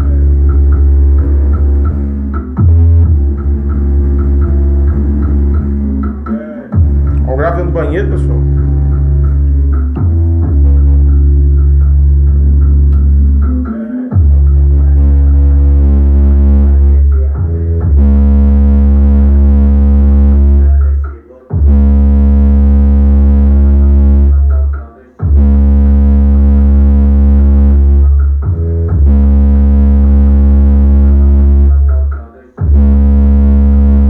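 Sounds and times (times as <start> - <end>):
bass-heavy electronic music: 0.0 - 34.0.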